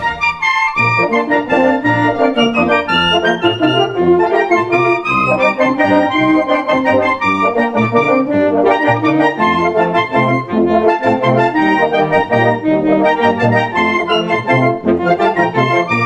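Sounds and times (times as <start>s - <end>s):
instrumental organ-like music: 0.0s - 16.0s.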